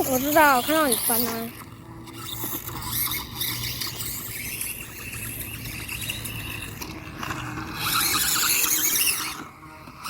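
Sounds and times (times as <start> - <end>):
small electric motor whining: 0.0 - 10.0.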